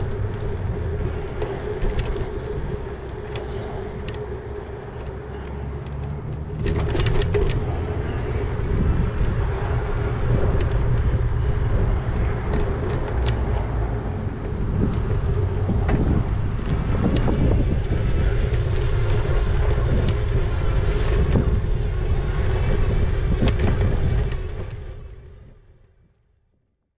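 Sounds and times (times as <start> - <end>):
sharp clicks and rattles: 0.0 - 25.4
road noise: 0.0 - 26.2
wind rumble on microphone: 0.0 - 26.4.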